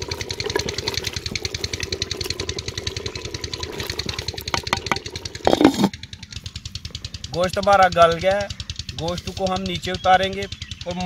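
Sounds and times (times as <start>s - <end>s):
engine chugging: 0.0s - 11.0s.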